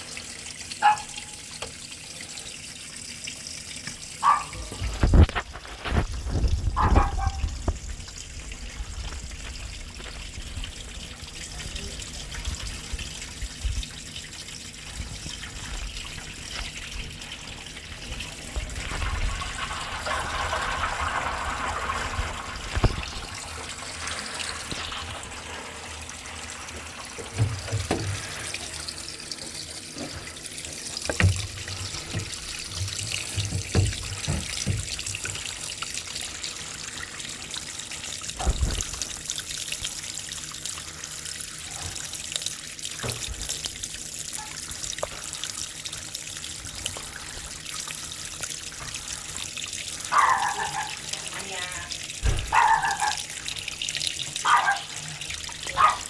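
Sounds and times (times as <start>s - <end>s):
water running and trickling: 0.0s - 56.0s.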